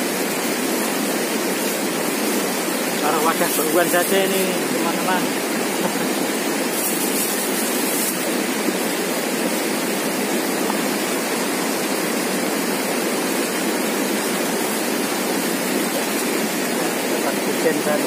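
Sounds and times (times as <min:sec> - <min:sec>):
river rapids rushing: 0:00.0 - 0:18.0.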